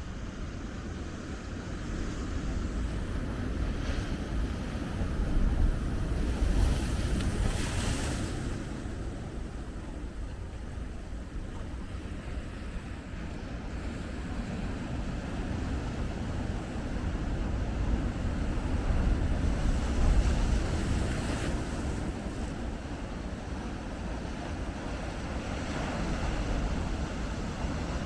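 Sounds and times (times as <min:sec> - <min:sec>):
ocean waves breaking: 0:00.0 - 0:28.0
wind on microphone: 0:01.5 - 0:28.0.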